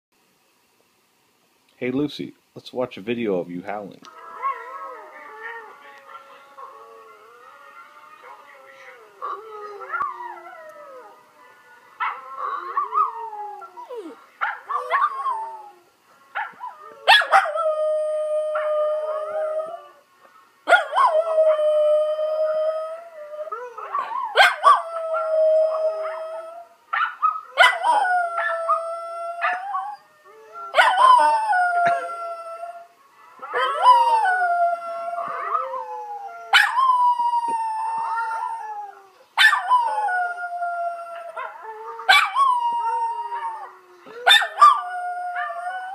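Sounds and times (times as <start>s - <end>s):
recorded howling from laptop speaker: 4.0s - 45.9s
dog howling: 4.1s - 20.1s, 20.7s - 45.9s.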